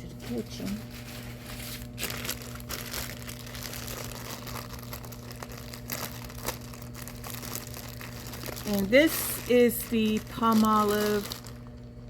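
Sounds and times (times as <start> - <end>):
steady low hum: 0.0 - 12.0
packaging crinkling: 0.3 - 12.0.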